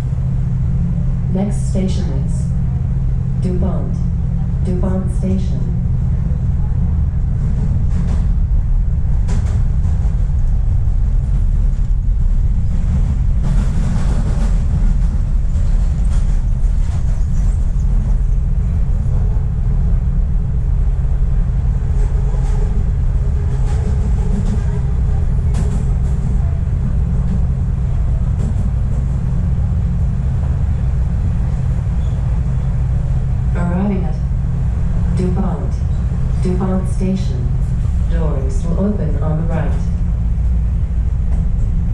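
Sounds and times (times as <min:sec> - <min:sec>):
subway train rumbling: 0:00.0 - 0:41.9
train clicks and rattles: 0:00.0 - 0:41.9.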